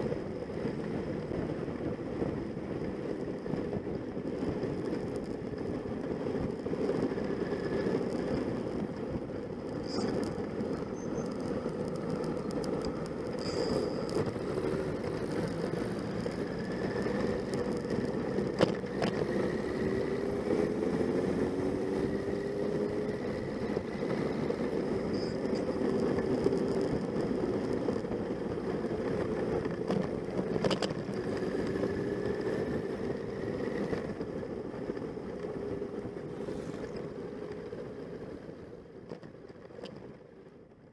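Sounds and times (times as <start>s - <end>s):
motorcycle engine running: 0.0s - 39.4s.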